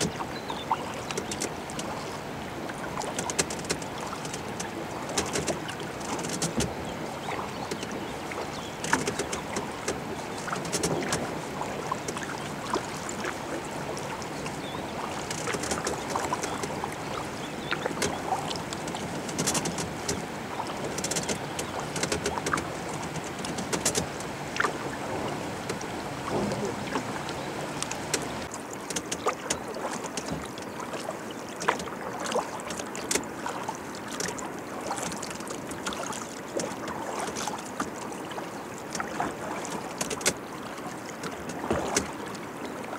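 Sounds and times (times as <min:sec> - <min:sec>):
paddle splashes and drips: 0:00.0 - 0:42.9
water washing along hull: 0:00.0 - 0:42.9.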